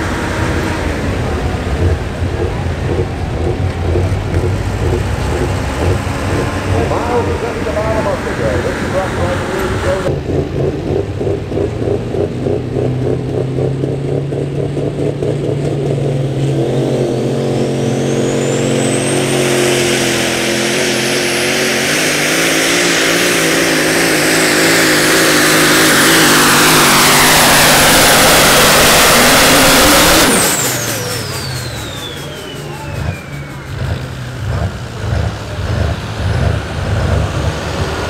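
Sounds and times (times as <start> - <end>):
diesel truck engine under load: 0.0 - 38.0
turbocharger whine: 0.0 - 38.0.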